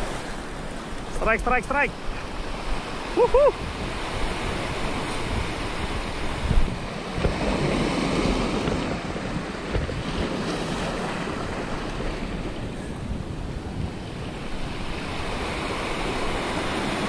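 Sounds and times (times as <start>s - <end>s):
surf washing over rocks: 0.0s - 17.0s
wind buffeting microphone: 2.0s - 17.0s.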